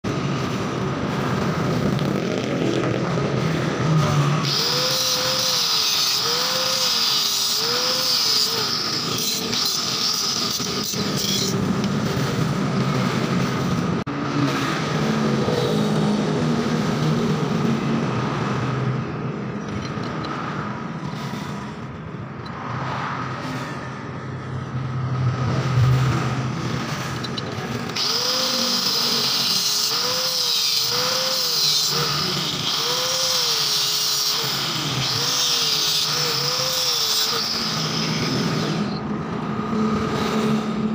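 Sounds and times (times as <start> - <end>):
angle grinder cutting steel: 0.6 - 18.7, 24.6 - 40.9.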